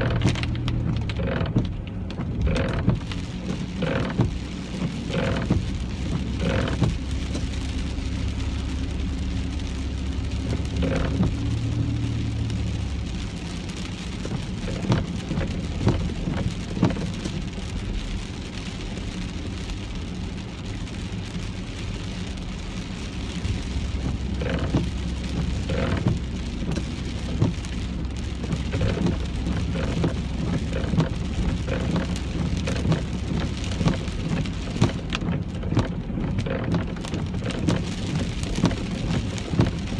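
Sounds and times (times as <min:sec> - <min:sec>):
car engine and tyres hum: 0:00.0 - 0:39.9
rain on car: 0:00.0 - 0:39.9.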